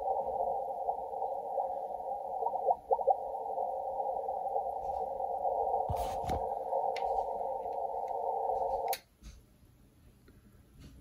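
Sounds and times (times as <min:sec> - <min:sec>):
radio receiver hiss: 0:00.0 - 0:09.1.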